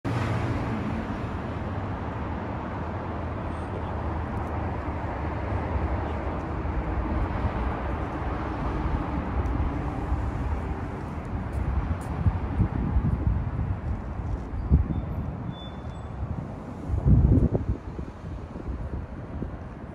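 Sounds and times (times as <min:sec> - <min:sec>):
street noise: 0:00.0 - 0:19.9.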